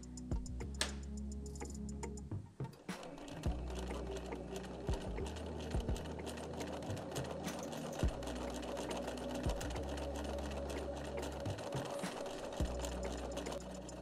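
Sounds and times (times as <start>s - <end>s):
sewing machine running: 2.8s - 14.0s.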